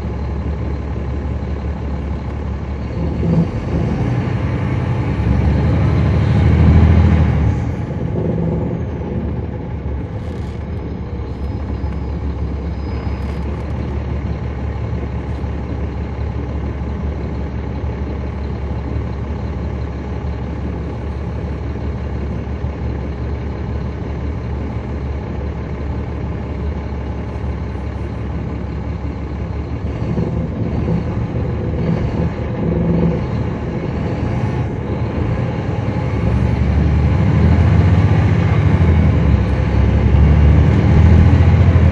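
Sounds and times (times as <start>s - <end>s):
bus diesel engine drone: 0.0s - 41.9s.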